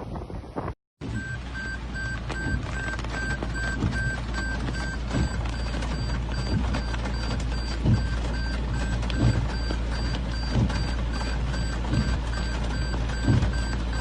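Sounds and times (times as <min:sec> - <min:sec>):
rapid electronic beeping: 0:01.1 - 0:14.0.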